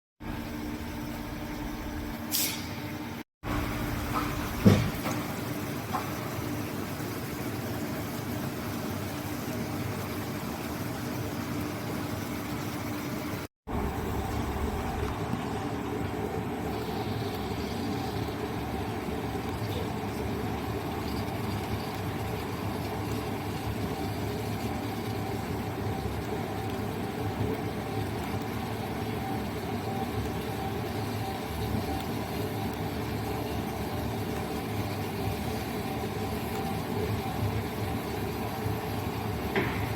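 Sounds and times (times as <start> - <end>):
industrial equipment hum: 0.2 - 10.3, 11.2 - 39.9.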